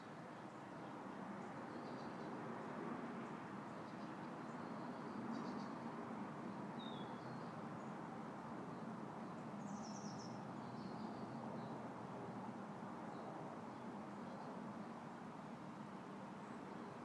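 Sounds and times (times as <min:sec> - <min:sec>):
wind through leaves: 0:00.0 - 0:17.0.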